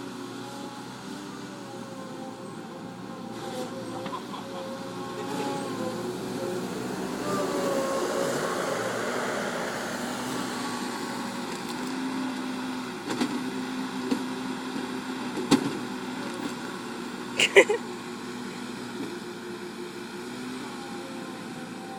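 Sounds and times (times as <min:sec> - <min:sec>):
bulldozer diesel engine running: 0:00.0 - 0:21.9.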